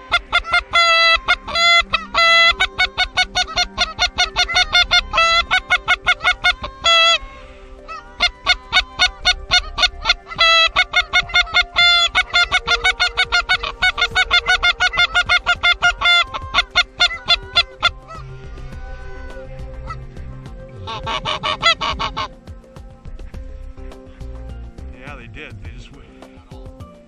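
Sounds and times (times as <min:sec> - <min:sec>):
geese honking: 0:00.0 - 0:26.6.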